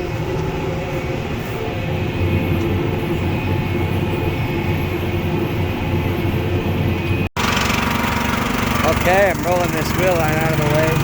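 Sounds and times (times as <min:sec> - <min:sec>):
tractor and baler running: 0:00.0 - 0:11.0.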